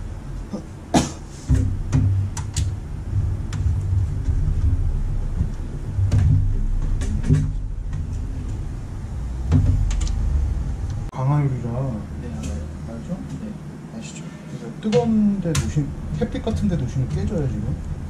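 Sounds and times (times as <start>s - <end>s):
steady low rumble: 0.0s - 14.1s, 14.7s - 18.0s.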